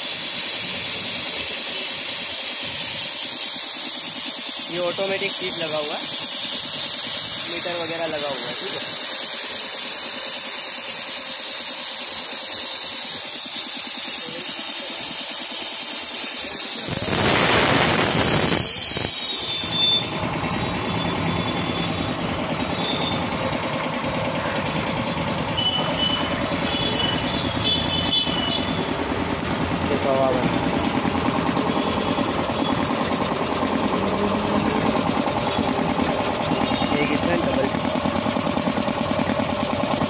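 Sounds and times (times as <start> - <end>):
air compressor running: 0.0 - 40.0.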